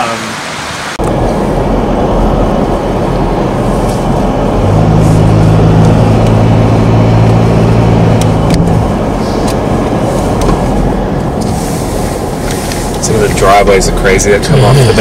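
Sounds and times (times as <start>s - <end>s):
low engine hum: 0.0s - 15.0s
tyre and road noise: 0.0s - 15.0s.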